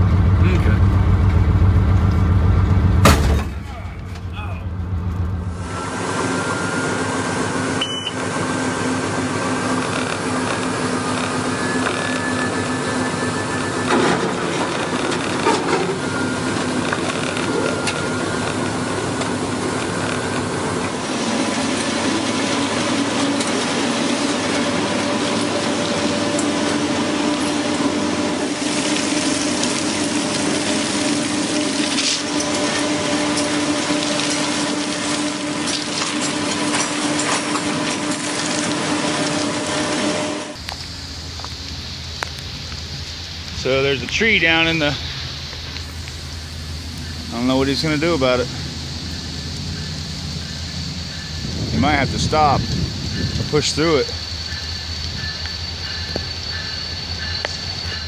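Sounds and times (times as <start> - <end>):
locomotive running on track: 0.0 - 58.0.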